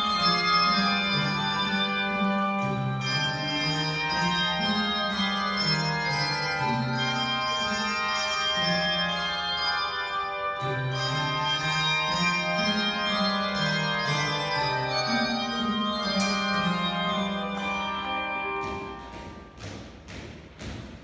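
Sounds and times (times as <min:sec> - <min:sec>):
handbells ringing chords: 0:00.0 - 0:19.8.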